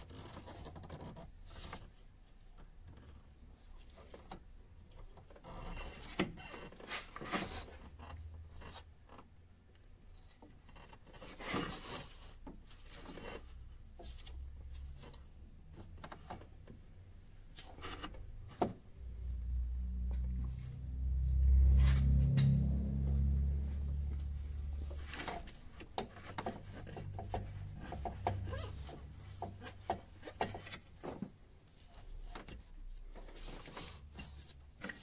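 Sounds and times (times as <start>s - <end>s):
plastic and metal scraping: 0.0s - 9.3s, 9.9s - 35.0s.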